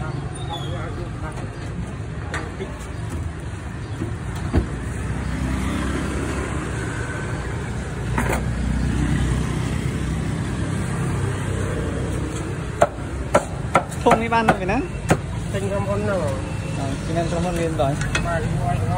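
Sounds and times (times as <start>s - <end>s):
motor traffic rumble: 0.0s - 18.9s.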